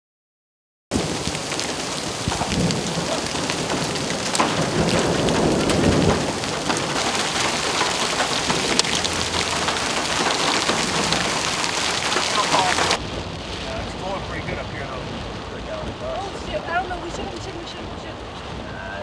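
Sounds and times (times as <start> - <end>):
hailstone impacts: 0.9 - 19.0
heavy rain: 0.9 - 19.0.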